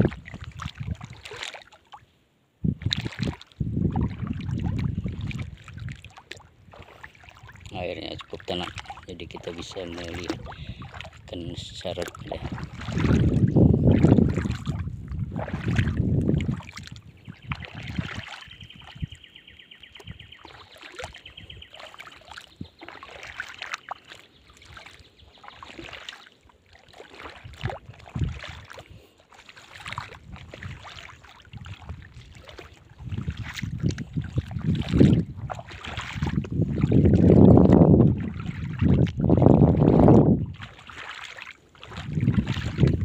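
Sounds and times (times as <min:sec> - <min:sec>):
wind rumbling on microphone: 0:00.0 - 0:01.4, 0:02.6 - 0:23.4, 0:27.1 - 0:29.1, 0:29.7 - 0:41.1, 0:41.7 - 0:43.0
footsteps wading through water: 0:00.0 - 0:43.0.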